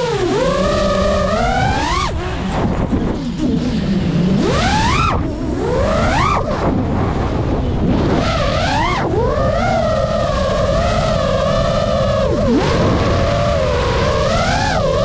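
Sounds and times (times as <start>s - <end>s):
drone motors whining: 0.0s - 15.0s
low wind rumble: 0.0s - 15.0s.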